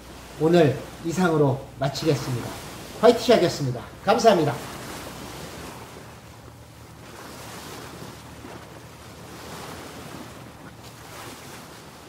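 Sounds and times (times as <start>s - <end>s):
sea wash: 0.0s - 12.0s.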